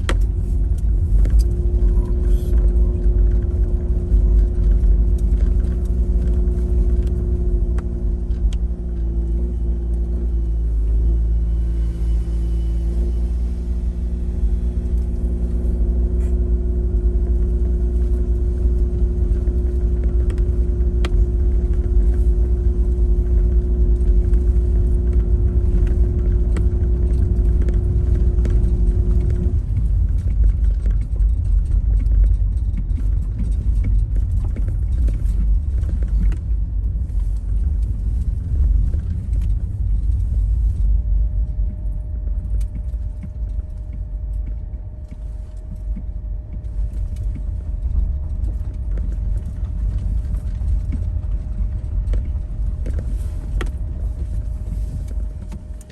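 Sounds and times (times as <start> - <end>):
car engine and road rumble: 0.0 - 55.9
engine hum: 0.0 - 55.9.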